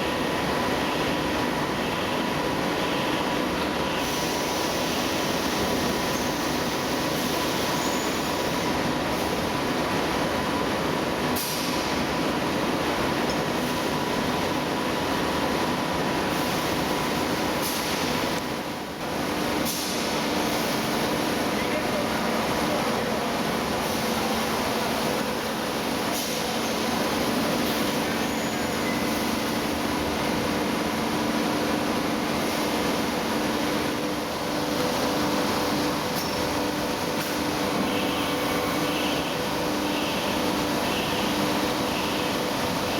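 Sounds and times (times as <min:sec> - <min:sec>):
production line machinery running: 0:00.0 - 0:42.9.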